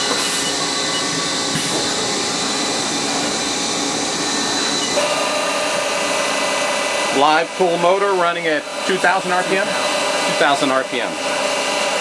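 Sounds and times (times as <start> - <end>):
lower machine tone: 0.0 - 12.0
milling motor whirring with whine: 0.0 - 12.0.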